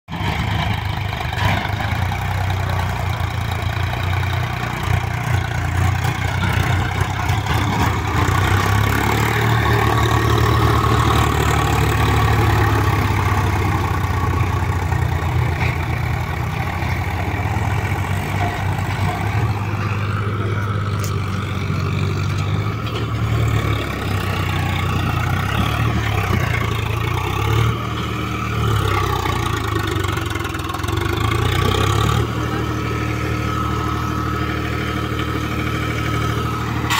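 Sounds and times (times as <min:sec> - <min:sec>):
tractor diesel engine under load: 0:00.1 - 0:36.9.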